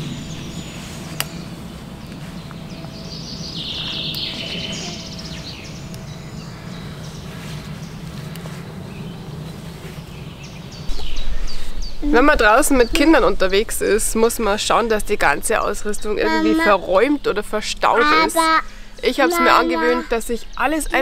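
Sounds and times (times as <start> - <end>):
low background rumble: 0.0 - 21.0
songbird chirping a trill: 0.0 - 21.0.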